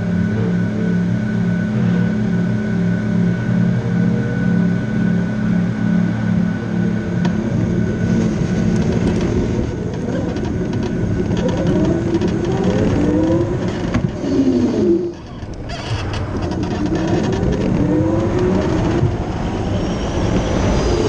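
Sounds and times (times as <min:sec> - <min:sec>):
race car accelerating: 0:00.0 - 0:21.0
road and wind noise: 0:00.0 - 0:21.0.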